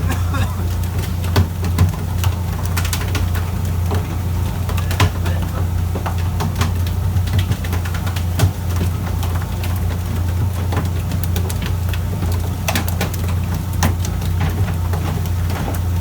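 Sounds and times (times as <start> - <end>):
sharp clicks and knocks: 0.0 - 15.9
boat engine droning: 0.0 - 16.0.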